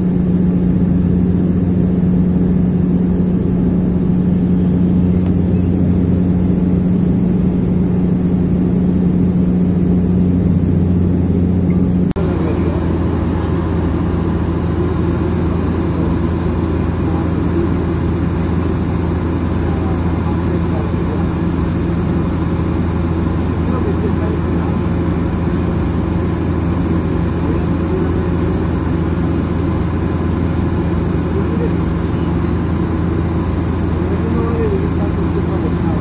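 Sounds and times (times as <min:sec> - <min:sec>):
airliner engines droning in cabin: 0:00.0 - 0:36.0.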